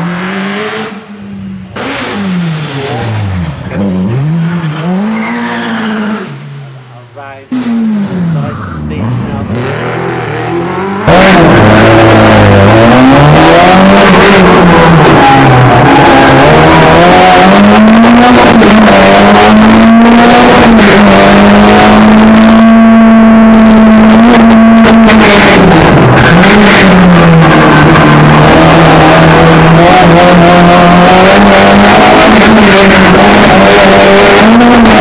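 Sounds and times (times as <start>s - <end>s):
car engine revving: 0.0s - 35.0s
road noise: 0.0s - 35.0s.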